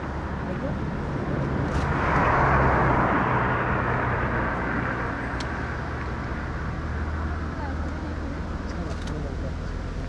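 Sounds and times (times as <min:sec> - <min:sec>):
rush of noise: 0:00.0 - 0:08.6.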